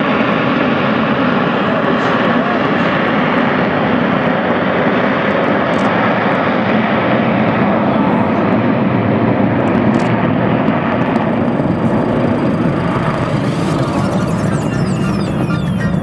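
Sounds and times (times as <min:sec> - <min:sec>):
airplane engine rushing: 0:00.0 - 0:16.0.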